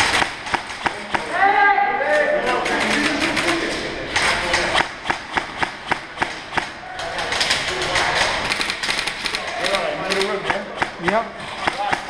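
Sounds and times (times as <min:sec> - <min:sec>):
airsoft guns firing: 0:00.0 - 0:01.4, 0:02.6 - 0:12.0.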